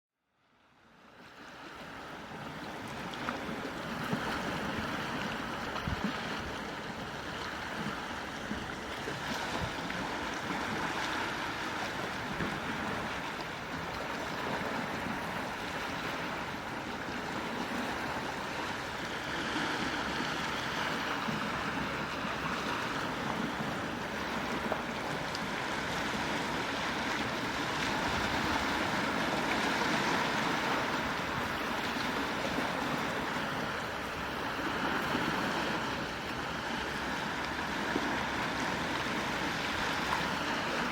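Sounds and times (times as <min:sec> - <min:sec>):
sea waves washing on shore: 0:00.8 - 0:40.9.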